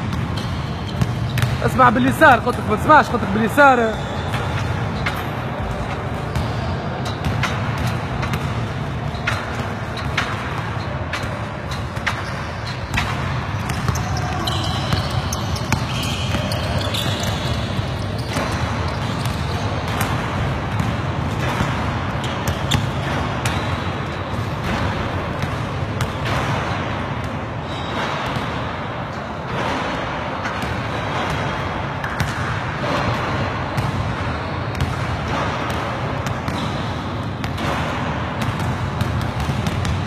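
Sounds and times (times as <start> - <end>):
basketballs bouncing and thudding: 0.0 - 40.0.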